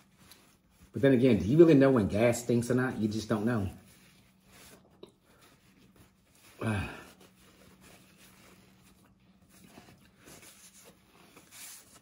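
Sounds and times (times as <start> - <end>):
paper towel rustling: 0.0 - 12.0.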